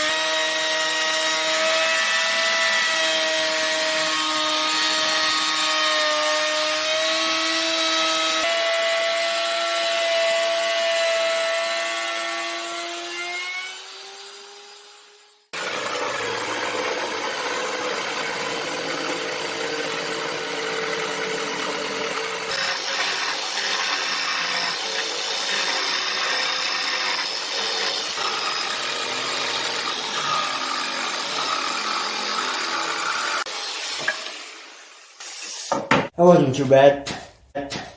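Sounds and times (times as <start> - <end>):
power tool cutting wood: 0.0 - 35.8.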